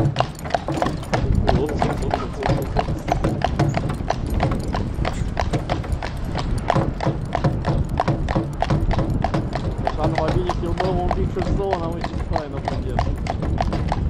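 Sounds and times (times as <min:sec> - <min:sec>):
horse hooves clip-clopping: 0:00.0 - 0:14.0
steady low rumble: 0:00.0 - 0:14.0.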